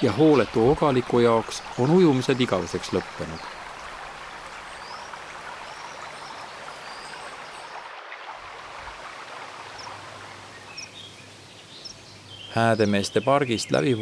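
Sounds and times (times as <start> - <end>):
river water babbling over rapids: 0.0 - 12.3.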